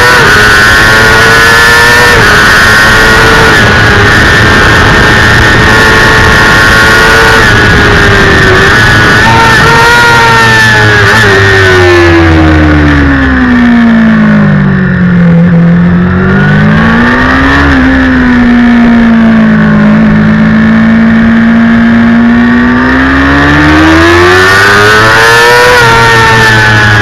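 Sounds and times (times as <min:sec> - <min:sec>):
motorcycle engine at racing speed: 0:00.0 - 0:27.0.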